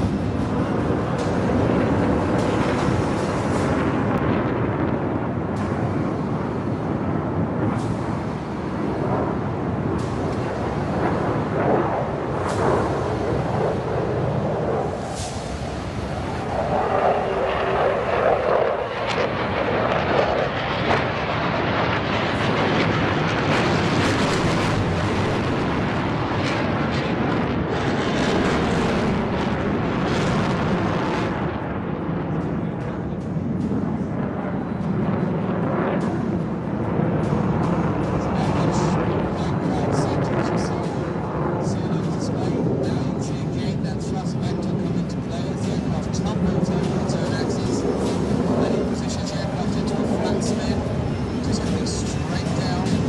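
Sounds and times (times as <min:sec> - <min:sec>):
jet engine noise: 0:00.0 - 0:53.0.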